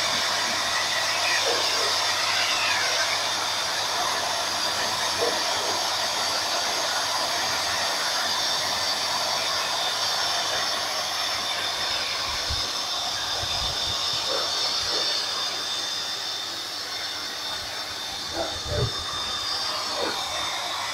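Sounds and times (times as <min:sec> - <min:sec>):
pet dryer blowing air: 0:00.0 - 0:20.9.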